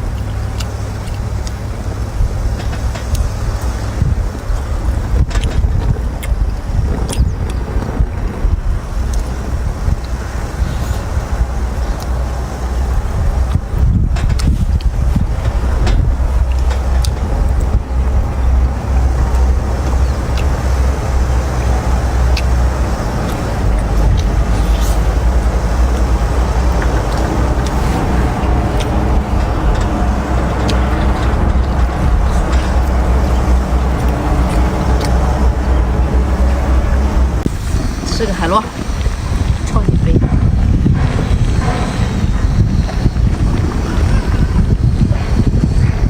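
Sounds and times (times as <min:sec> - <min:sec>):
boat engine rumbling: 0:00.0 - 0:46.0.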